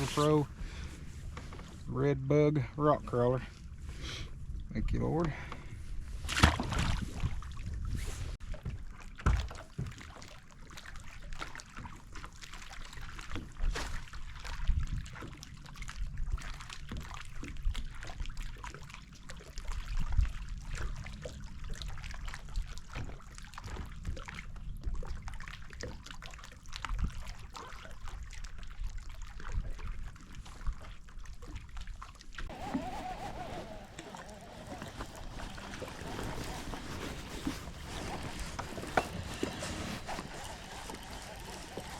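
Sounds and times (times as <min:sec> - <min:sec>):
water lapping against boat hull: 0:00.0 - 0:41.9.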